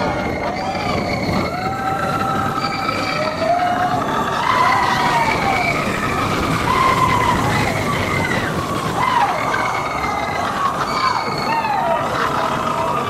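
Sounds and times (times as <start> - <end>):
roller coaster rushing rumble: 0.0 - 13.0.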